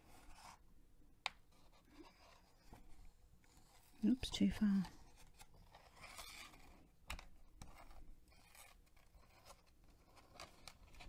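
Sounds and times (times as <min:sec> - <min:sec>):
paper pages rustling: 0:01.5 - 0:11.0.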